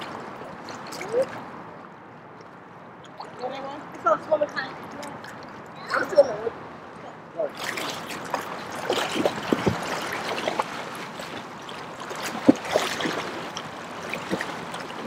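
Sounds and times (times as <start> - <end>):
pool water splashing: 0.0 - 15.0.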